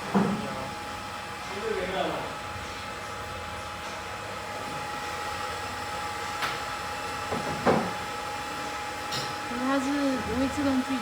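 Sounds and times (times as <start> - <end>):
fans humming with faint whine: 0.0 - 11.0.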